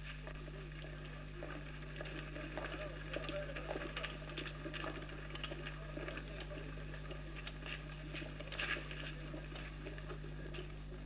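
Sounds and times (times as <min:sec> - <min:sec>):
faint crackling and pattering: 0:00.0 - 0:11.0
steady low hum: 0:00.0 - 0:11.0.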